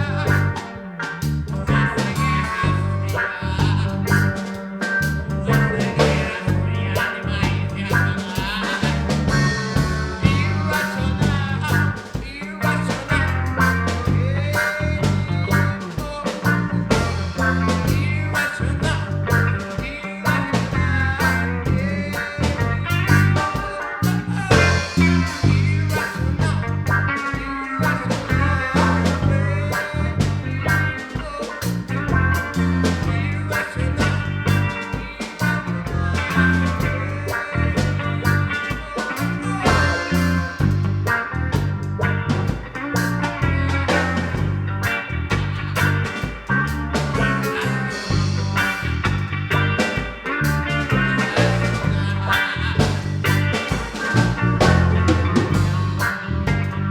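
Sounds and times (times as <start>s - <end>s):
driving bass line: 0.0s - 56.9s
instrumental band playing: 0.0s - 56.9s
sliding bending lead guitar line: 0.0s - 56.9s.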